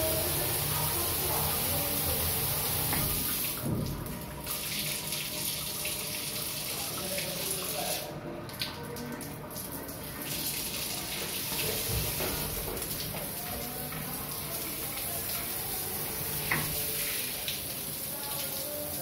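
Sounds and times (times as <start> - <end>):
shower water spraying: 0.0 - 8.1, 9.2 - 19.0.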